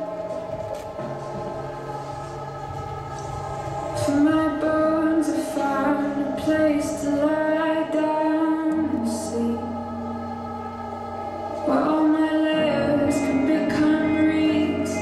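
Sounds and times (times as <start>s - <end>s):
sustained accompaniment: 0.0s - 15.0s
woman singing slow song: 1.6s - 15.0s.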